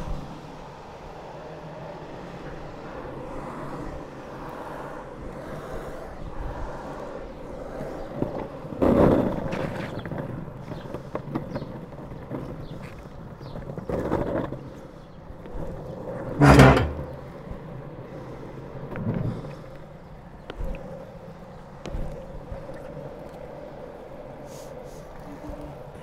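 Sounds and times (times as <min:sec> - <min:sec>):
longboard wheels rolling on asphalt: 0:00.0 - 0:26.0.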